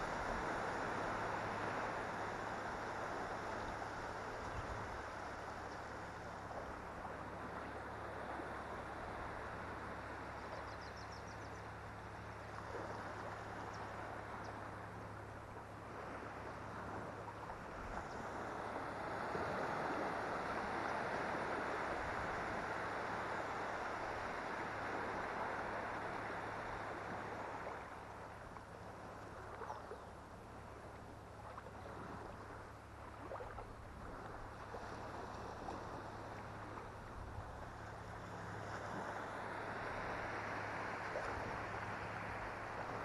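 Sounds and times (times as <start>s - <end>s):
low steady hum: 0.0s - 43.0s
shallow water rushing: 0.0s - 43.0s.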